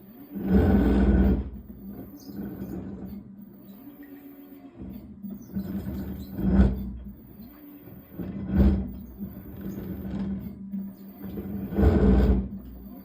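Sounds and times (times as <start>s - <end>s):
loud grinding: 0.0s - 3.2s, 4.8s - 13.0s
washing machine motor hum: 0.0s - 13.0s.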